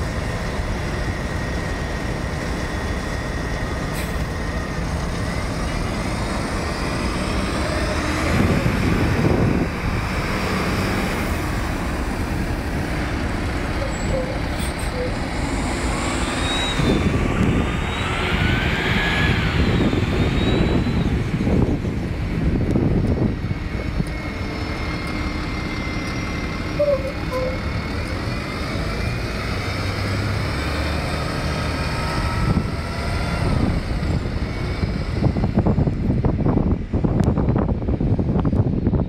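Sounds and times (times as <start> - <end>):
bus engine whining: 0.0 - 39.0.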